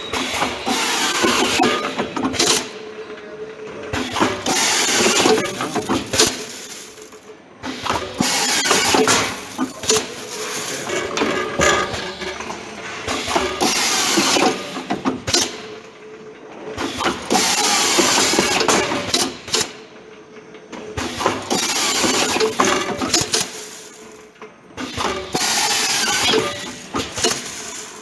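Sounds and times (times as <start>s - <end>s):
mechanical clicks and clatter: 3.9s - 28.0s.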